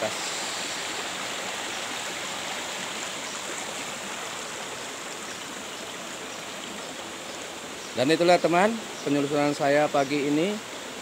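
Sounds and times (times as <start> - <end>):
stream flowing over boulders: 0.0 - 11.0.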